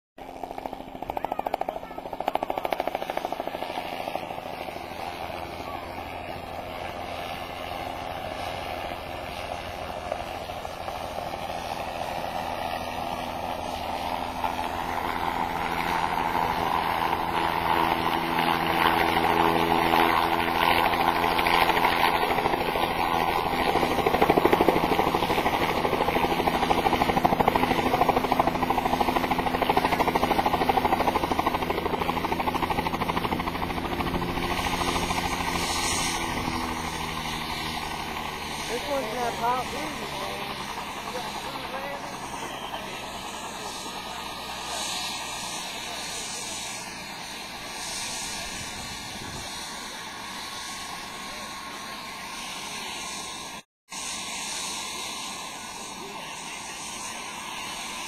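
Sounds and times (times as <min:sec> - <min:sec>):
helicopter engine hum: 0:00.2 - 0:58.0
helicopter rotor beating: 0:00.2 - 0:58.0.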